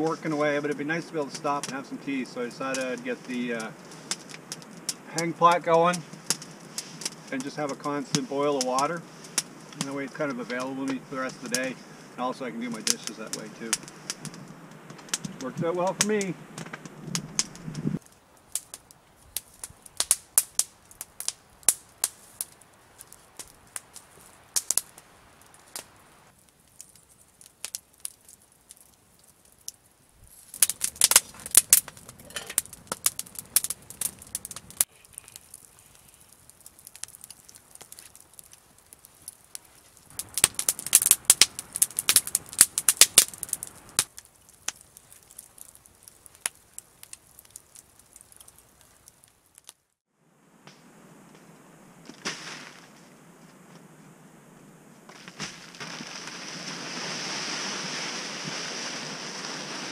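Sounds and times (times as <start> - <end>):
wood campfire crackling and popping: 0.0 - 59.9.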